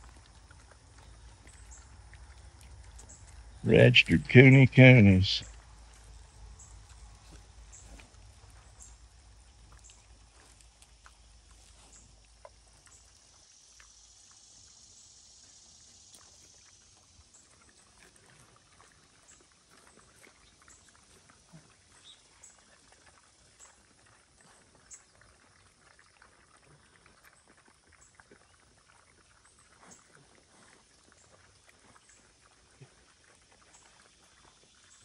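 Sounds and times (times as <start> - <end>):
pigs chewing and rooting: 0.0 - 35.0.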